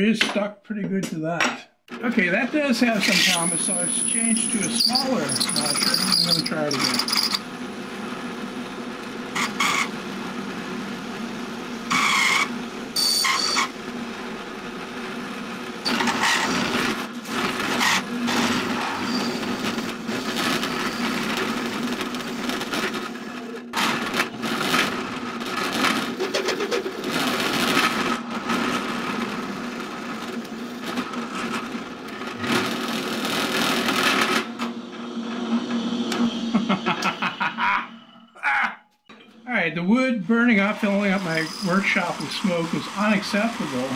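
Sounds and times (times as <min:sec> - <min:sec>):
drill press humming: 0:02.2 - 0:37.8, 0:40.6 - 0:43.9.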